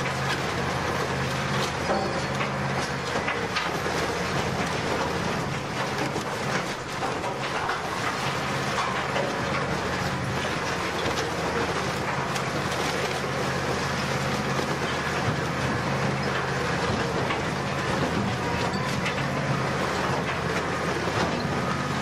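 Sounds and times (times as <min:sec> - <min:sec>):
metal crunching and cracking: 0:00.0 - 0:21.4
shredder drive droning: 0:00.0 - 0:22.0.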